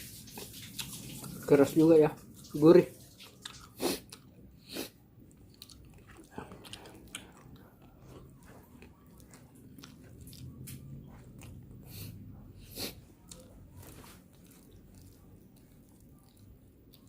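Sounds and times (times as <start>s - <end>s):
crunchy food chewing: 2.4s - 17.0s.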